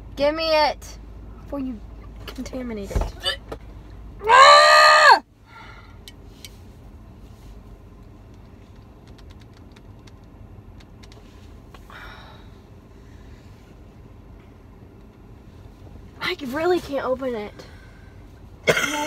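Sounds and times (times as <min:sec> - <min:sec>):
car cabin rumble: 0:00.0 - 0:04.4, 0:05.3 - 0:19.0.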